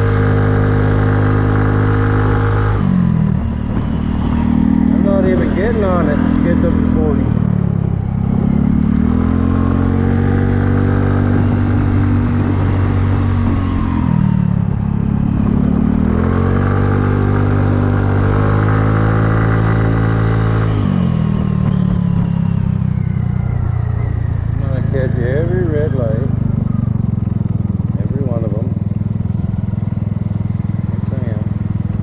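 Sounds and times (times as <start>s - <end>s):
scooter engine revving: 0.0s - 32.0s.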